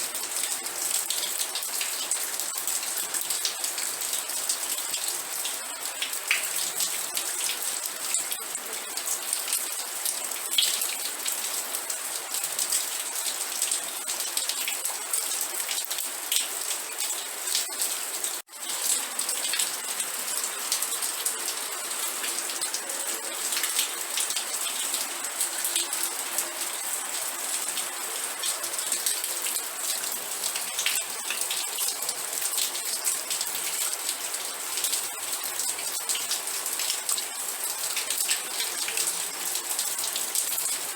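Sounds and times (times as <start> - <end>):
rain drops hitting a surface: 0.0 - 40.9.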